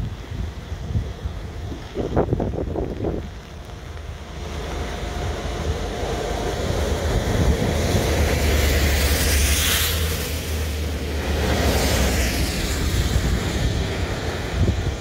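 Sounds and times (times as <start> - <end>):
diesel locomotive engine rumble: 0.0 - 15.0
wind noise on microphone: 0.0 - 15.0.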